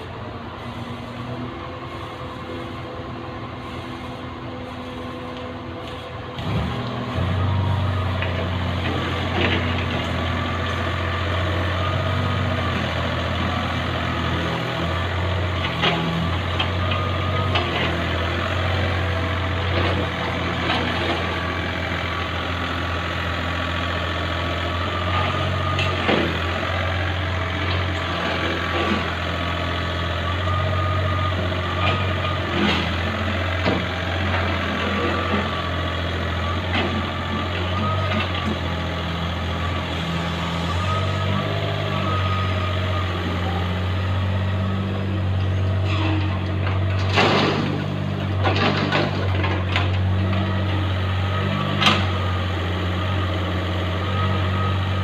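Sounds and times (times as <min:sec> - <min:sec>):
diesel machinery engines droning: 0:00.0 - 0:55.0.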